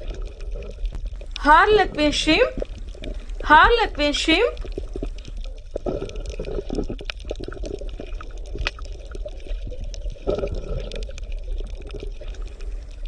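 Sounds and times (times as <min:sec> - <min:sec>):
water bubbling and gurgling: 0:00.0 - 0:13.0.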